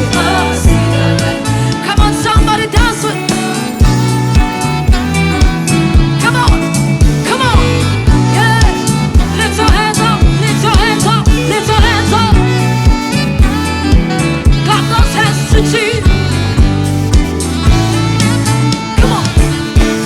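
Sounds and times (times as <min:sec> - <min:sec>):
person singing melody: 0:00.0 - 0:20.0
worship band playing: 0:00.0 - 0:20.0.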